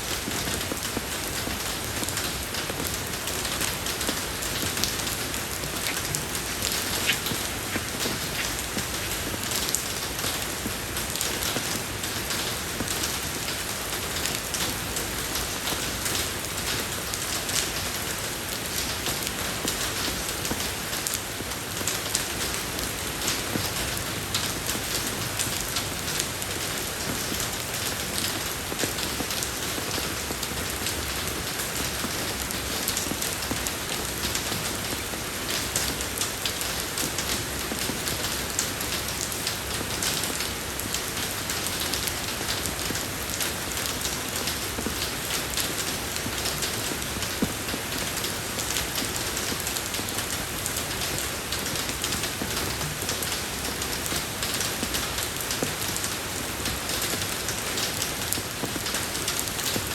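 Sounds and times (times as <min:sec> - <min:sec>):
rain falling on road: 0:00.0 - 0:59.9.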